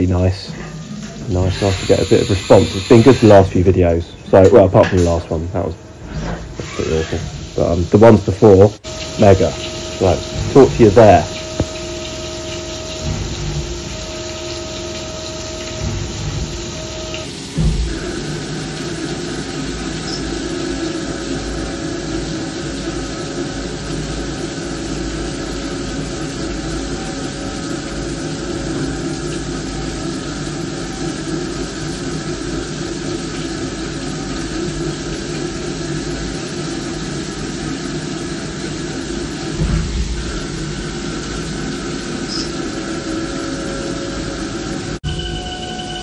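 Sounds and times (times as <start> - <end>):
milling machine spindle hum: 0.0 - 4.4, 8.7 - 46.0
coolant spraying: 0.0 - 45.0.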